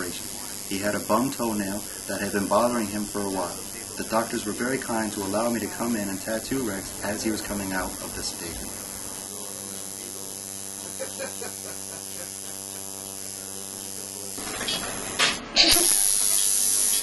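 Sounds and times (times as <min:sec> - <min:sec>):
loud hiss: 0:00.0 - 0:17.0
tattoo machine buzzing: 0:00.0 - 0:17.0.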